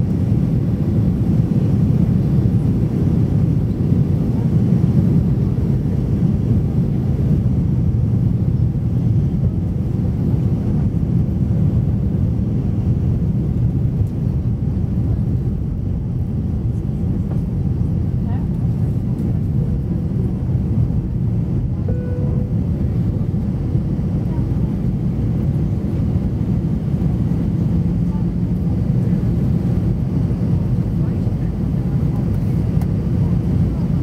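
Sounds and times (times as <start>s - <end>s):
airliner cabin engine rumble: 0.0s - 34.0s.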